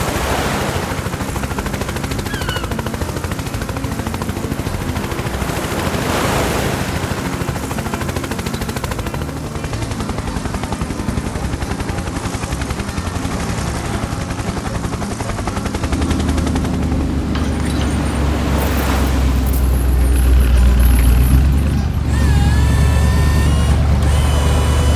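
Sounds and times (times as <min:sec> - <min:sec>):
low engine hum: 0:00.0 - 0:24.9
rapid rattle of pulses: 0:00.0 - 0:24.9.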